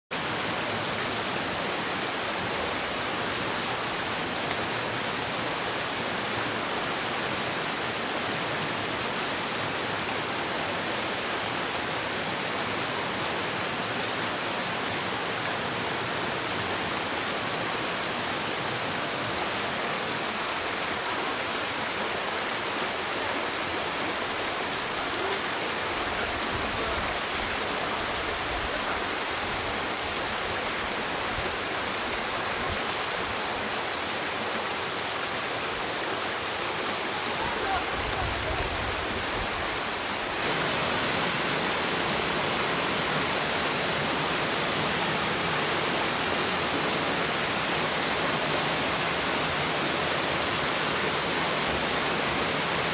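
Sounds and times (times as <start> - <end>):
stream rushing over rocks: 0.1 - 52.9.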